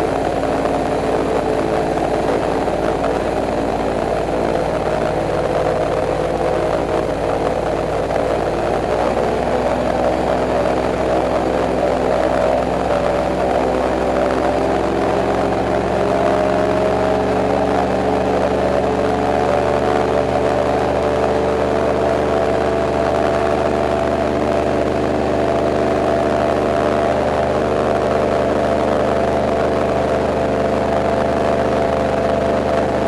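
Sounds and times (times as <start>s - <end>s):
airboat engine and propeller drone: 0.0s - 33.0s.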